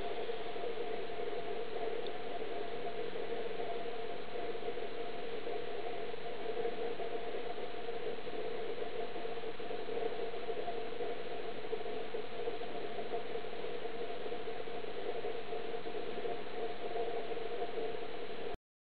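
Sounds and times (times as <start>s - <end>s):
steady hum and hiss: 0.0s - 18.6s.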